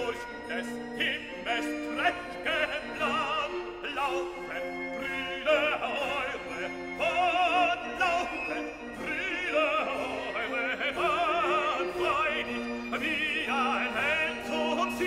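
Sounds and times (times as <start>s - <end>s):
operatic singing with vibrato: 0.0s - 15.0s
orchestral accompaniment: 0.0s - 15.0s.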